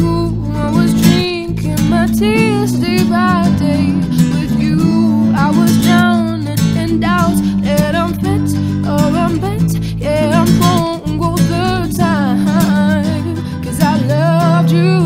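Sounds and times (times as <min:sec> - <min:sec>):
acoustic guitar strumming: 0:00.0 - 0:15.0
electric bass: 0:00.0 - 0:15.0
lead melody with bending notes: 0:00.0 - 0:15.0
mandolin: 0:00.0 - 0:15.0.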